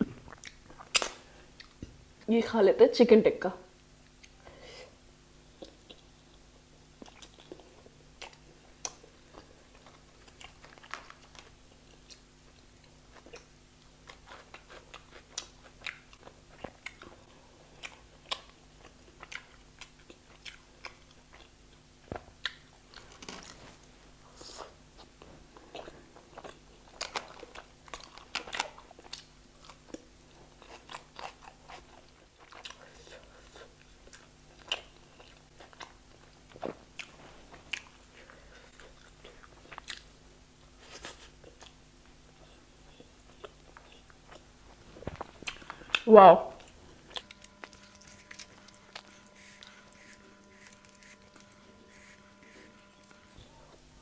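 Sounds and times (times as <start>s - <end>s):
person chewing food: 0.0s - 1.9s, 5.5s - 23.6s, 24.3s - 54.0s.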